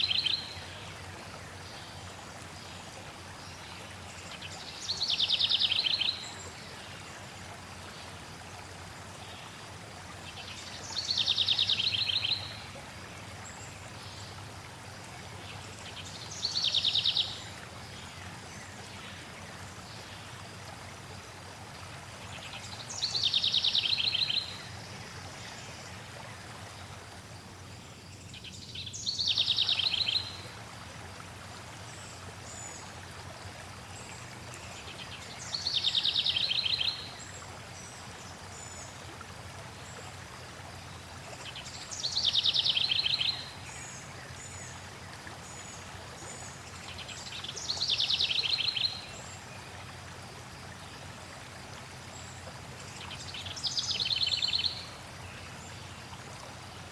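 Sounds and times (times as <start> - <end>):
flowing water: 0.0 - 56.9.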